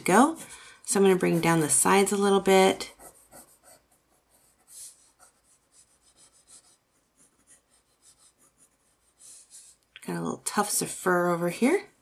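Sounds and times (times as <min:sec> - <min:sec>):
colored pencil scratching on paper: 0:00.0 - 0:09.8.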